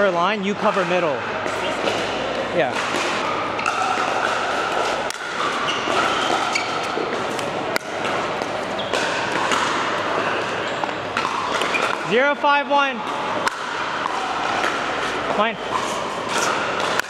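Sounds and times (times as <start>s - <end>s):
paddles striking balls: 0.0s - 17.0s.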